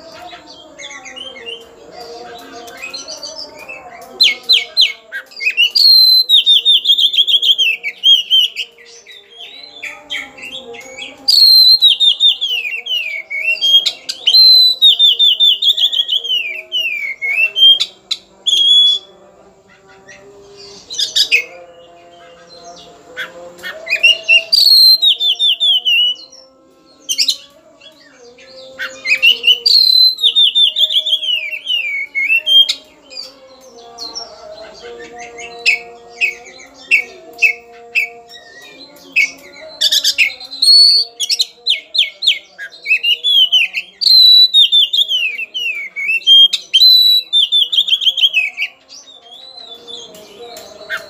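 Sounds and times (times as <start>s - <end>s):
bird singing trills and whistles: 0.0s - 51.0s.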